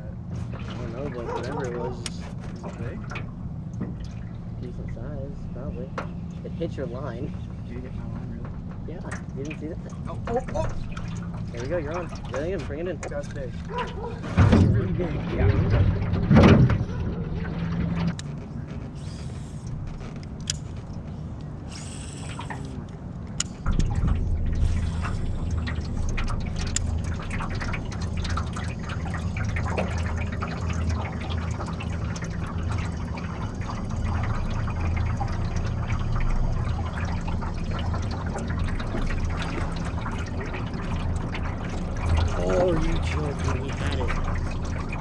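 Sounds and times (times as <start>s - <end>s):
boat motor humming: 0.0s - 45.0s
water splashing and dripping: 0.0s - 45.0s.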